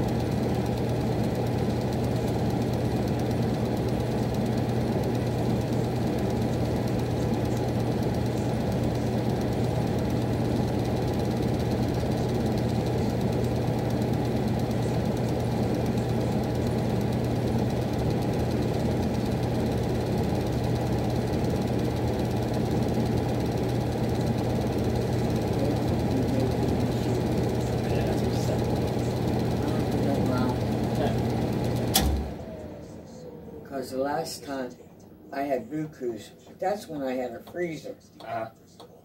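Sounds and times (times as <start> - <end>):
furnace humming with rattle: 0.0 - 39.0.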